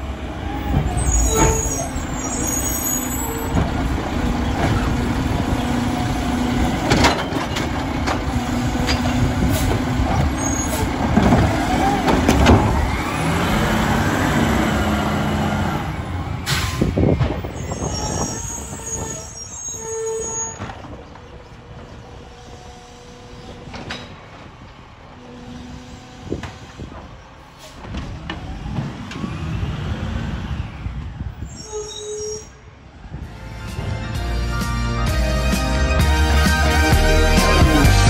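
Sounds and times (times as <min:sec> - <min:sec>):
garbage truck engine: 0:00.0 - 0:31.4, 0:32.7 - 0:38.0.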